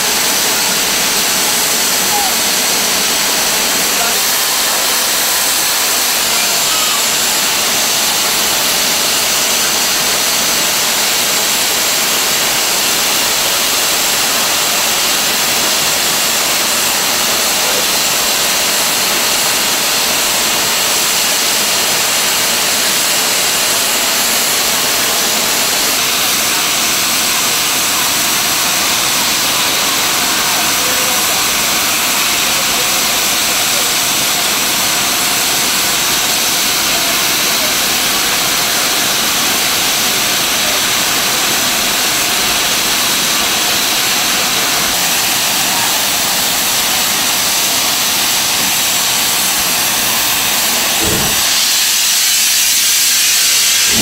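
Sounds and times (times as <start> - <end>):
steam escaping from safety valves: 0.0 - 54.0.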